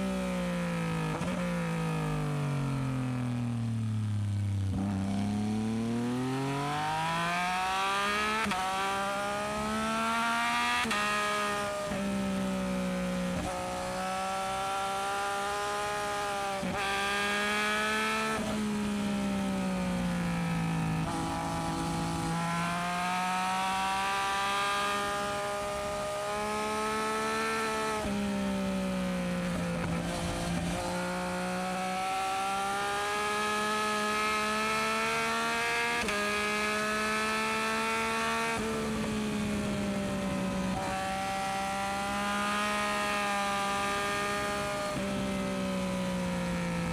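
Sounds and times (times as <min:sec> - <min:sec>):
motorcycle engine accelerating through gears: 0:00.0 - 0:46.9.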